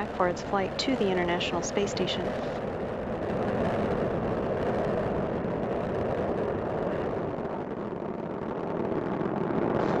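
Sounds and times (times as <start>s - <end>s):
rocket engines roaring: 0.0s - 10.0s.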